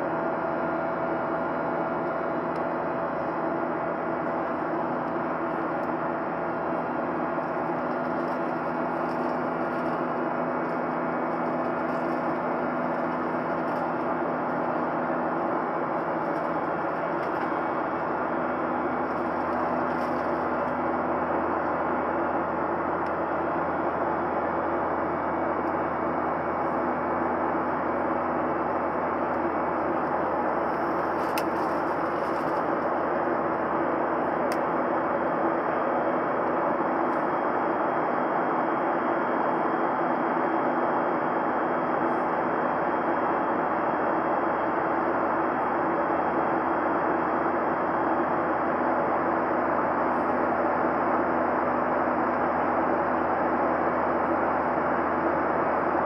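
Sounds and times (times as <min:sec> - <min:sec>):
jet engines humming: 0:00.0 - 0:46.9.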